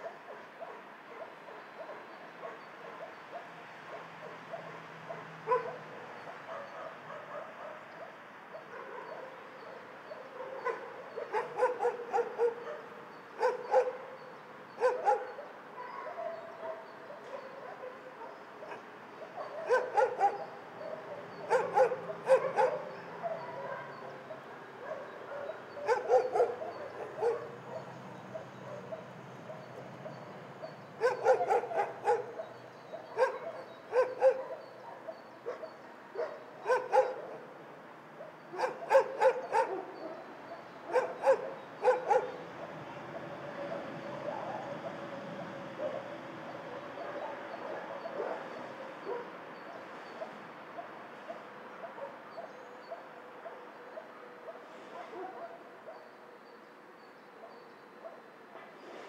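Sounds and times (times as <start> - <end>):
dogs barking in kennels: 0.0 - 59.0.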